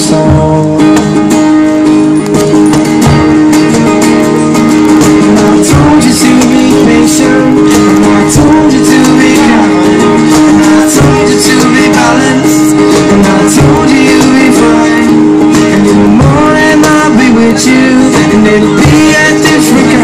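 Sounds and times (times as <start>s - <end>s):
man singing: 0.0s - 1.2s, 5.1s - 20.0s
acoustic guitars strumming: 0.0s - 20.0s.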